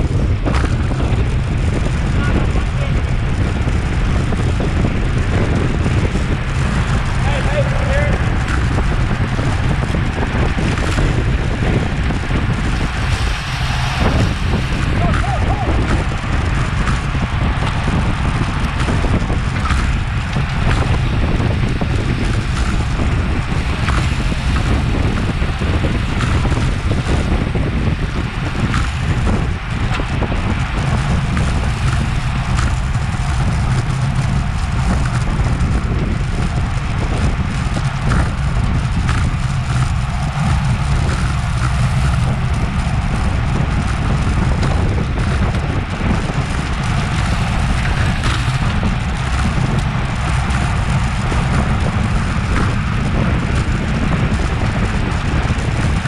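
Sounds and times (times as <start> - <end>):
tyre and road noise: 0.0 - 56.0
wind buffeting microphone: 0.0 - 56.0.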